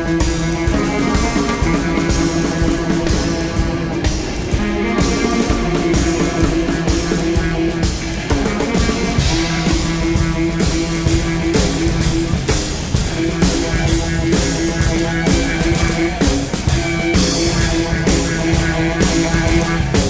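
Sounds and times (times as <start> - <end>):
drum kit beat: 0.0 - 20.0
electric guitar: 0.0 - 20.0
saxophone: 0.0 - 20.0.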